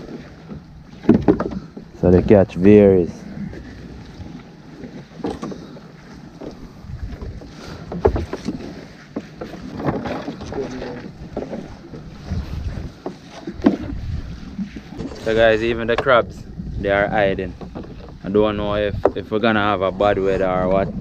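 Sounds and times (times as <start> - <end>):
knocks on small boat: 0.0 - 2.4, 3.5 - 16.3, 17.2 - 19.7
water sloshing: 0.0 - 21.0
wind buffeting microphone: 0.0 - 21.0.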